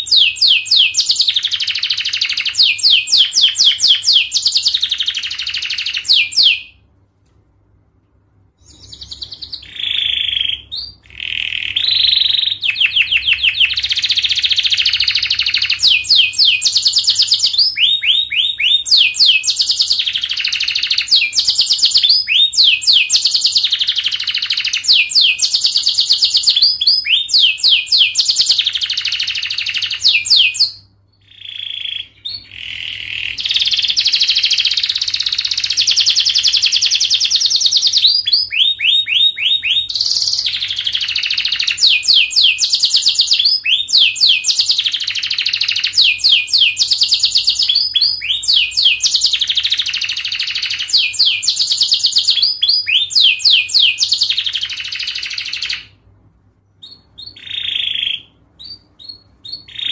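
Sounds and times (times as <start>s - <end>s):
canary singing trills: 0.0s - 6.9s, 8.6s - 56.0s, 56.7s - 59.9s.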